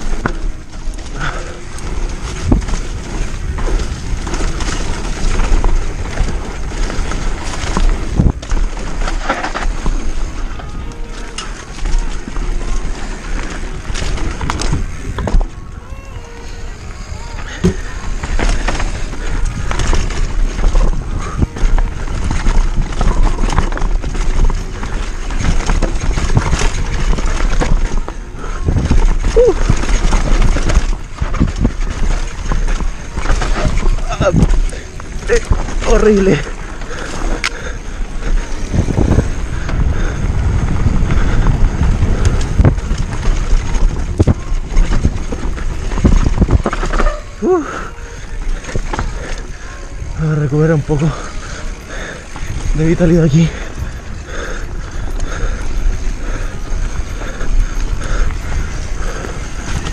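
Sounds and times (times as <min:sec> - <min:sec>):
wind on microphone: 0:00.0 - 0:50.2
bike clattering over bumps: 0:00.0 - 0:59.9
bike tyres rolling over dirt: 0:00.0 - 0:59.9.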